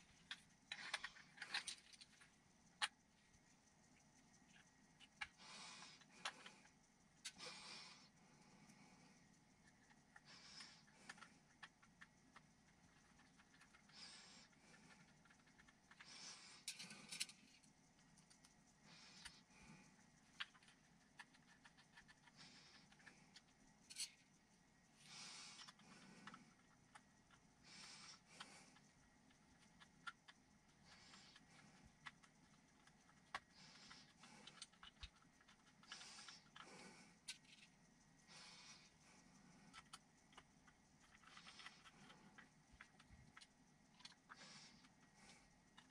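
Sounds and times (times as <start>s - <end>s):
small metal parts clicking: 0.0s - 3.0s, 9.6s - 24.3s, 25.0s - 37.8s, 38.7s - 45.9s
soft breaths: 0.0s - 45.9s.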